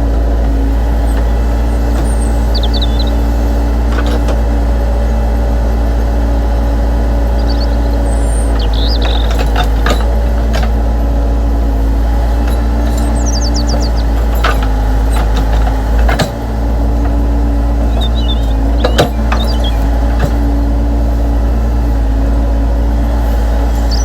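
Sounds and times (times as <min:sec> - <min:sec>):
electric motors whirring: 0:00.1 - 0:10.9, 0:11.9 - 0:24.0.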